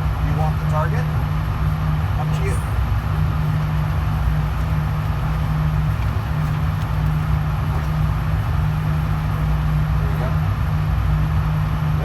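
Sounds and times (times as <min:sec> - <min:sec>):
constant hum and hiss: 0:00.0 - 0:12.0
steady low rumble: 0:00.0 - 0:12.0.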